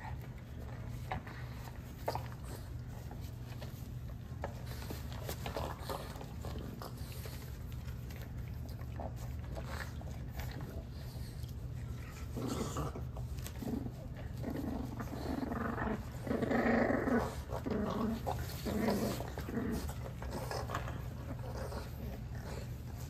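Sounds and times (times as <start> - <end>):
puppies growling: 0.0 - 23.0.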